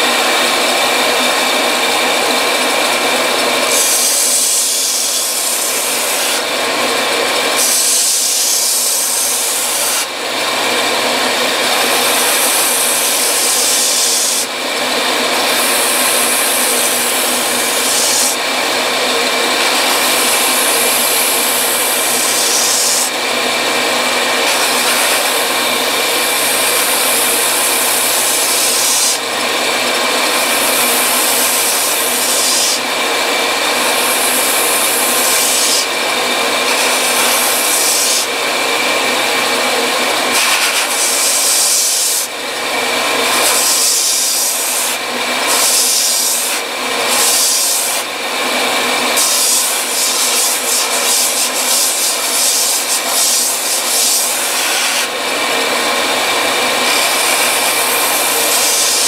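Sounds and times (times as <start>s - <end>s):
belt sander running: 0.0s - 59.0s
harsh grinding hiss of sanding: 2.9s - 6.6s, 7.4s - 10.1s, 11.6s - 14.6s, 15.2s - 18.4s, 19.5s - 32.8s, 33.5s - 38.4s, 40.3s - 42.3s, 43.1s - 48.1s, 49.0s - 59.0s.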